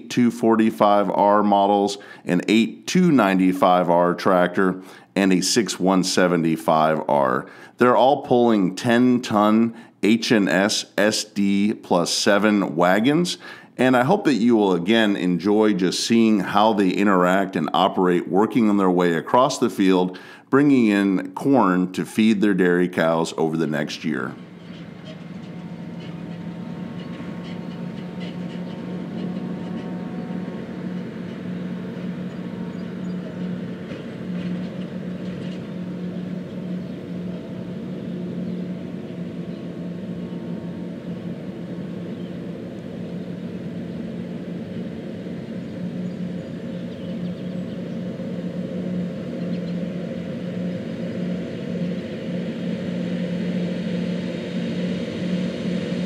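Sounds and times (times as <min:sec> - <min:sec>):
harvester machinery drone: 0:00.0 - 0:56.0.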